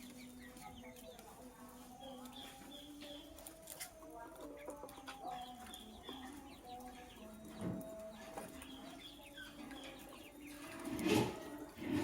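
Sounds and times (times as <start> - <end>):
chickens clucking: 0.0 - 12.0
lovebirds chirping: 0.0 - 12.0.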